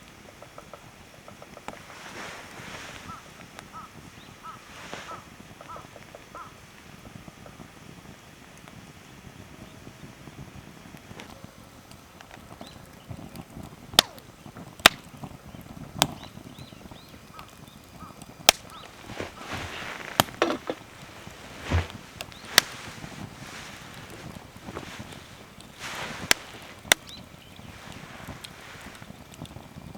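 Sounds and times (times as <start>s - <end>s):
faint hiss and rustle: 0.0s - 29.9s
wood fire crackling: 0.0s - 29.9s.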